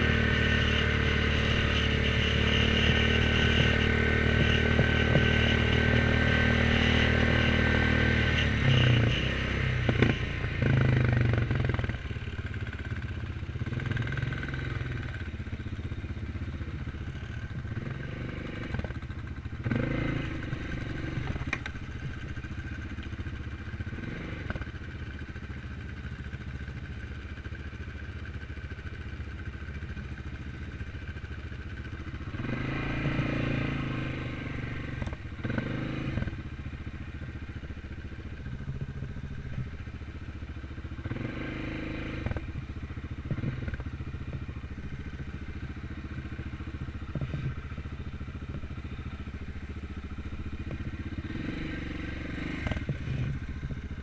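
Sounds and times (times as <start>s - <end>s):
quad bike engines running: 0.0s - 54.0s.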